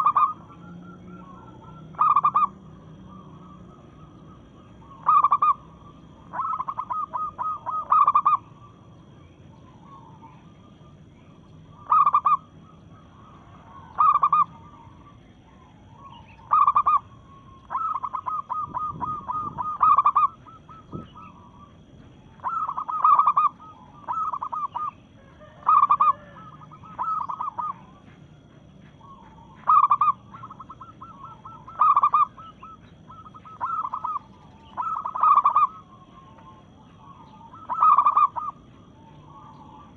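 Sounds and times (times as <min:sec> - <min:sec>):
dove cooing and trilling: 0:00.0 - 0:39.9.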